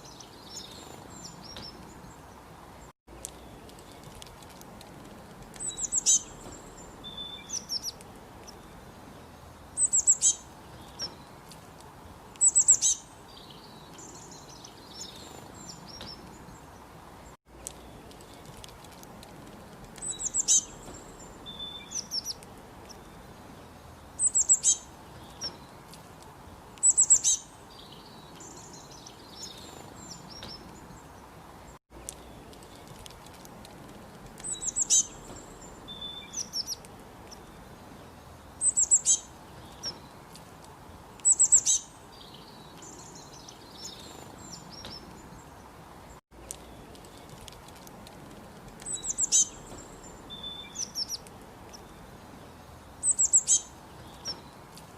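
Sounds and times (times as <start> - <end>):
small birds chirping: 0.0 - 54.9
steady background hiss: 0.0 - 54.9.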